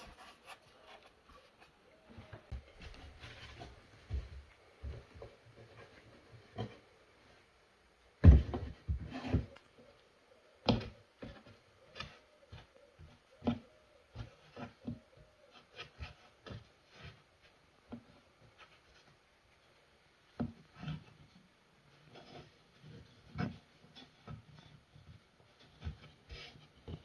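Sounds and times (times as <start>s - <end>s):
hands kneading dough on wood: 0.0s - 27.0s.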